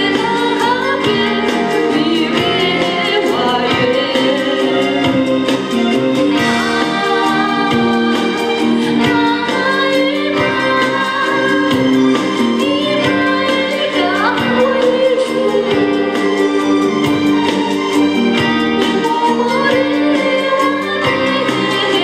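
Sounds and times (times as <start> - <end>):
woman singing: 0.0 - 17.6, 18.8 - 22.0
instrumental music with beat: 0.0 - 22.0.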